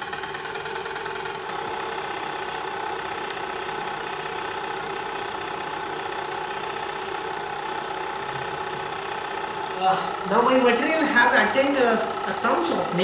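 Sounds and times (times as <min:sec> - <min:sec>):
laboratory apparatus humming: 0:00.0 - 0:13.0.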